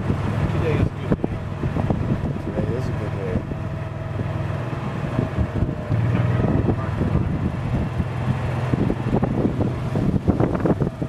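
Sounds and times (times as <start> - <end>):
golf cart drive hum: 0.0 - 11.0
wind on microphone: 0.0 - 11.0.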